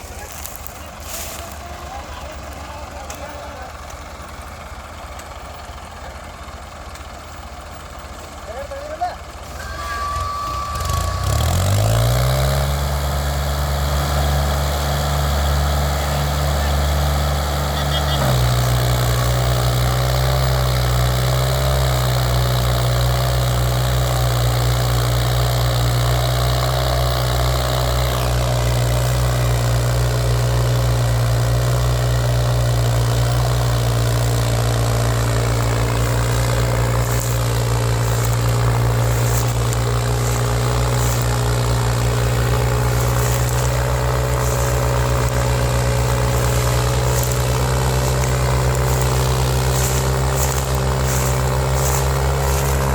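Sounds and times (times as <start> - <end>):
tractor diesel engine idling: 0.0 - 52.9.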